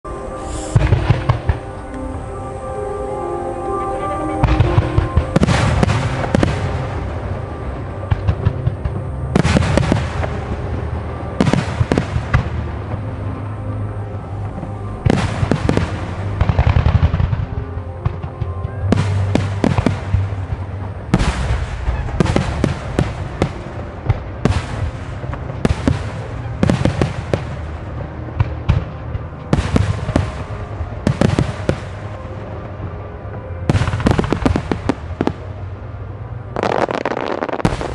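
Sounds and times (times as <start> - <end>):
music playing: 0.0 - 37.9
fireworks bursting and crackling: 0.1 - 2.2, 3.8 - 13.2, 15.0 - 32.2, 33.7 - 35.6, 36.6 - 37.9.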